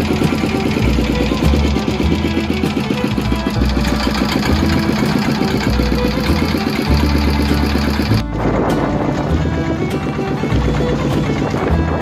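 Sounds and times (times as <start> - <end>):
boat inboard engine running: 0.0 - 12.0.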